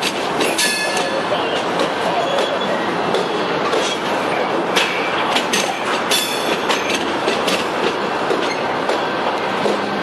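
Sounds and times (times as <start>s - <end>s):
clicks and clanks of rail cars: 0.0s - 10.0s
train wheels rumbling on rail: 0.0s - 10.0s.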